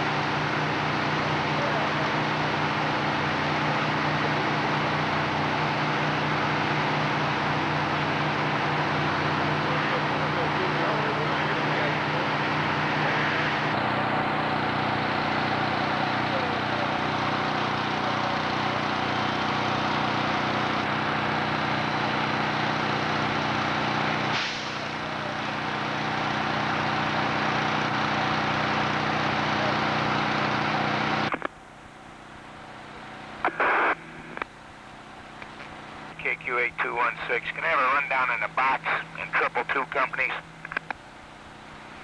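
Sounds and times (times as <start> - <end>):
fire engine motor running: 0.0 - 42.0.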